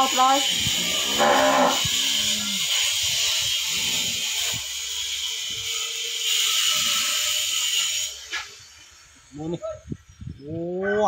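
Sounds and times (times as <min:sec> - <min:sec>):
high-pitched hiss: 0:00.0 - 0:10.8.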